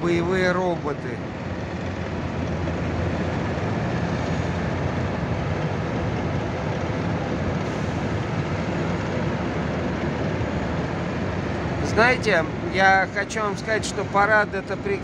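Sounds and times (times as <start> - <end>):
diesel trucks driving past: 0.0 - 15.0
road noise: 0.0 - 15.0.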